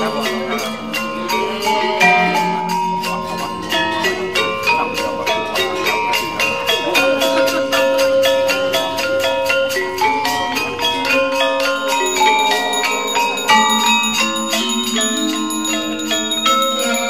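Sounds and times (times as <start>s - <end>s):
bell-like melody over held tones: 0.0s - 17.0s.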